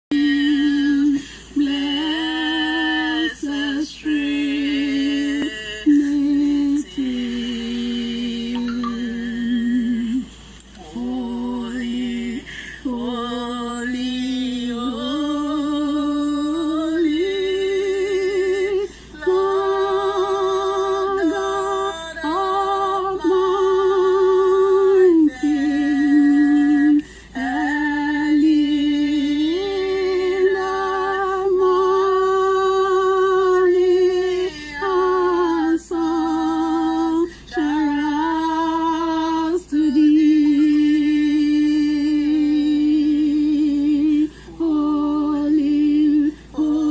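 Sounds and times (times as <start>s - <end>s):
woman singing unaccompanied: 0.0s - 46.9s.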